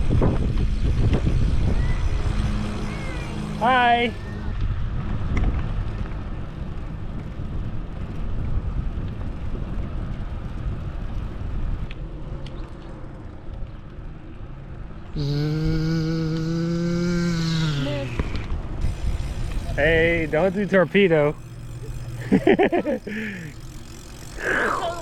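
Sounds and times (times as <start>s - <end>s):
wind and road rumble: 0.0s - 25.0s.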